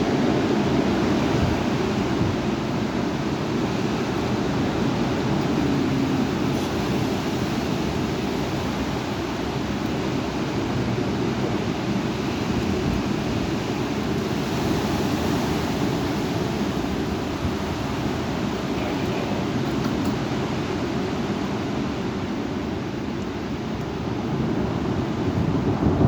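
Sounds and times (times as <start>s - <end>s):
strong wind blowing: 0.0s - 26.0s
wind buffeting microphone: 0.0s - 26.0s.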